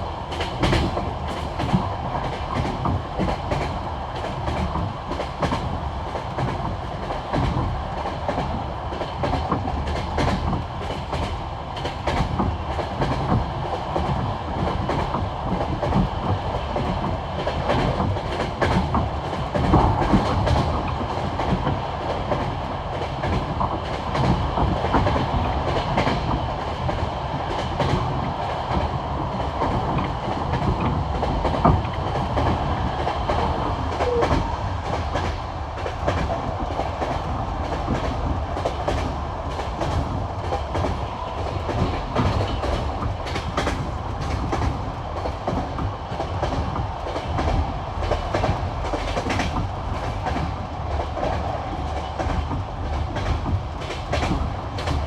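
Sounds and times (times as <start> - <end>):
train rolling rumble: 0.0 - 55.0.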